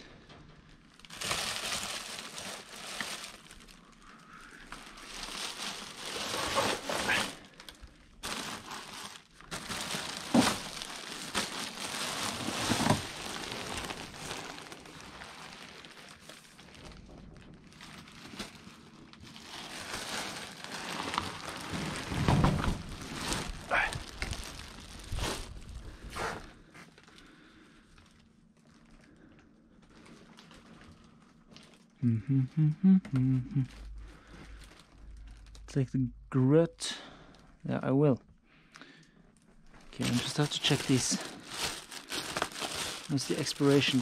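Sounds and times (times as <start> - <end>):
plastic bags rustling: 0.0 - 31.9, 33.6 - 35.7, 39.3 - 44.0.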